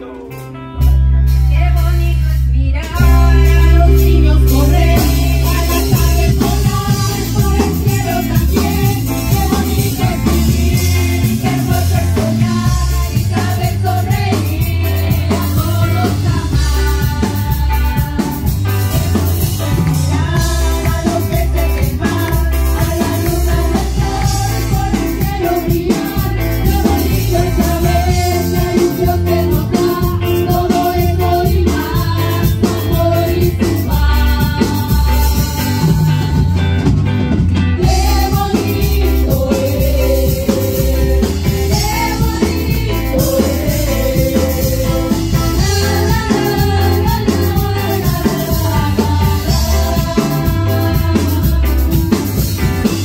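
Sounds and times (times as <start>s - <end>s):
band with bass and drums: 0.0s - 53.0s
women singing: 1.8s - 36.8s, 37.8s - 53.0s.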